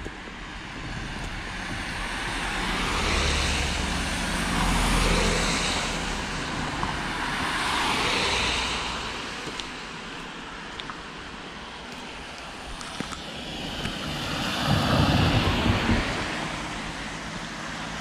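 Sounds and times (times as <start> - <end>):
cars passing on wet road: 0.0 - 18.0.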